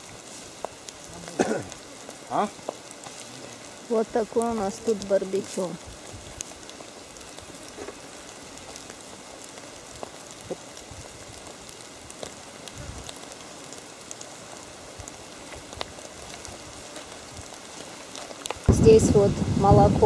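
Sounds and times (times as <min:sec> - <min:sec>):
fire crackling and hissing: 0:00.0 - 0:20.0.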